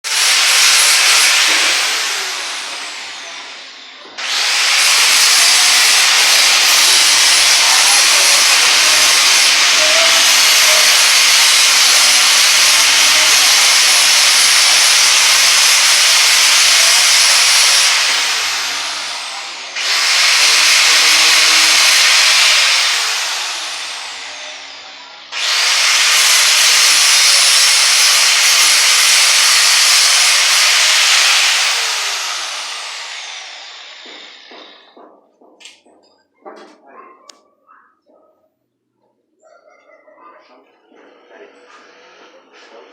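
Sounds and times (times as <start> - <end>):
power tool spinning: 0.0 - 35.0
power tool spinning down whine: 0.1 - 35.0.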